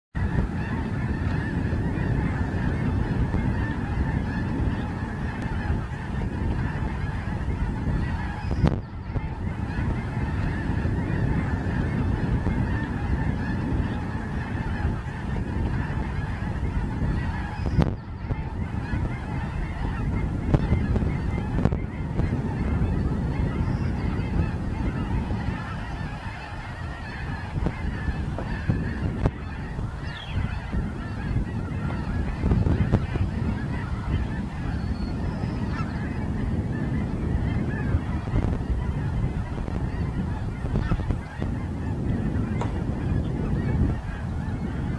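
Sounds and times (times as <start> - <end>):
geese honking: 0.2 - 44.9.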